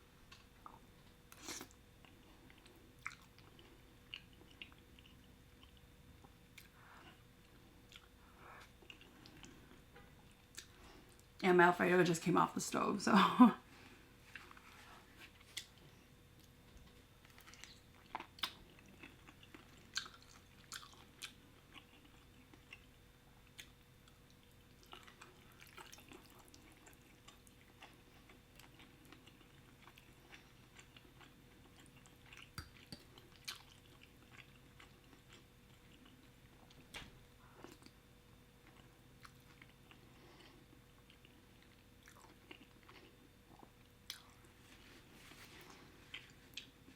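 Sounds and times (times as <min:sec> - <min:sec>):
chewing and biting food: 0:00.6 - 0:11.3, 0:14.3 - 0:38.0, 0:38.6 - 0:44.5.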